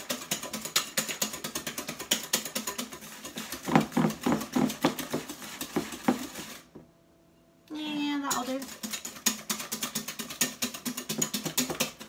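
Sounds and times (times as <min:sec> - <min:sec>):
whisk clicking against glass bowl: 0:00.0 - 0:06.5, 0:08.2 - 0:12.0.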